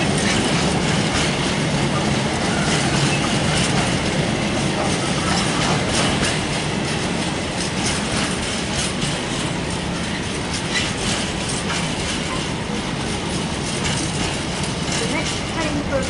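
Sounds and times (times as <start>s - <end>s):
freight train wheels clattering on rails: 0.0s - 16.0s.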